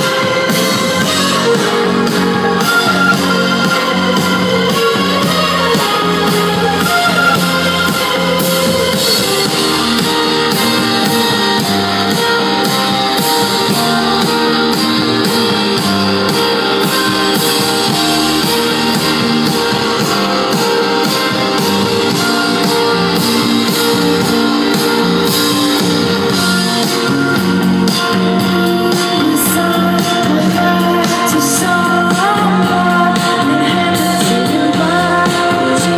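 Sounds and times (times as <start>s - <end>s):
drums with steady beat: 0.0s - 35.9s
electric guitars: 0.0s - 35.9s.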